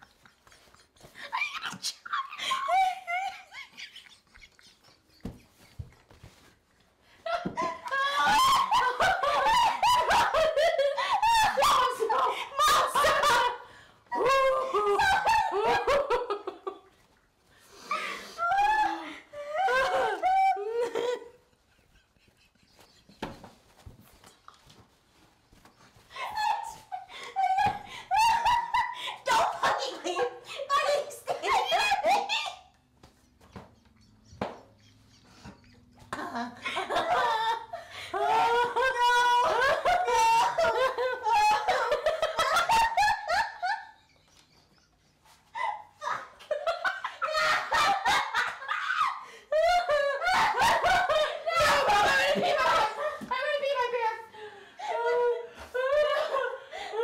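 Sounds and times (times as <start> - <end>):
women laughing hysterically: 0.0 - 6.5, 7.2 - 17.0, 17.8 - 57.0.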